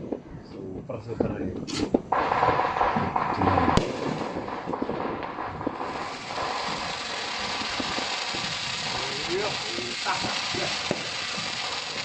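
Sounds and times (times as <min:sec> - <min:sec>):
fireworks crackling and popping: 0:01.2 - 0:12.0
firework bang: 0:01.7 - 0:12.0.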